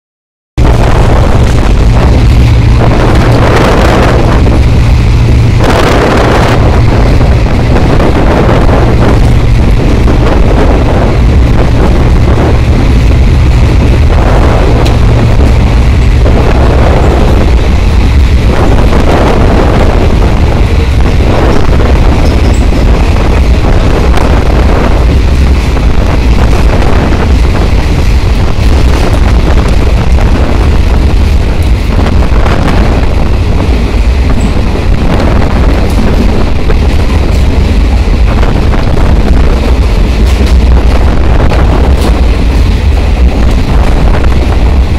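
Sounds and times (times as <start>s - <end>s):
rushing air: 0.6s - 44.9s
train wheels rumbling on track: 0.6s - 44.9s.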